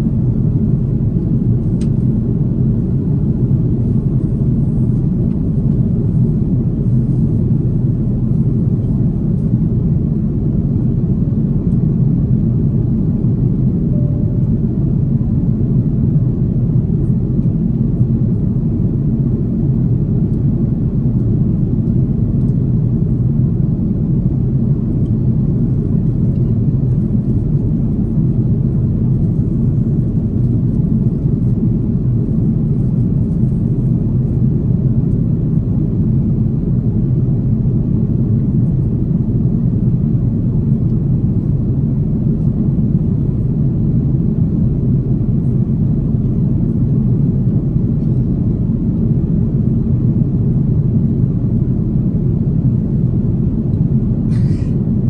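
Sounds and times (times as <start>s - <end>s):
airliner cabin engine roar: 0.0s - 55.0s.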